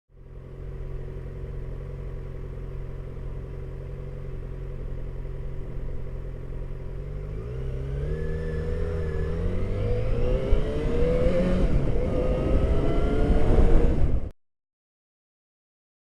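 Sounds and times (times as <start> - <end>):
motorcycle engine running: 0.1 - 14.0.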